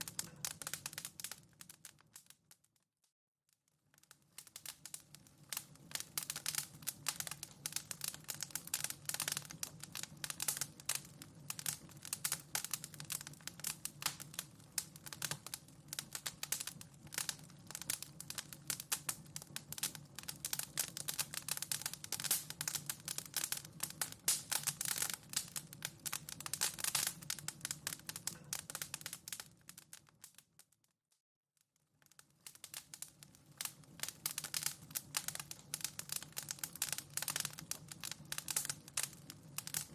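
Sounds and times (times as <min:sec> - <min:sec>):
wood fire crackling: 0:00.0 - 0:02.7, 0:03.7 - 0:30.8, 0:31.8 - 0:39.9.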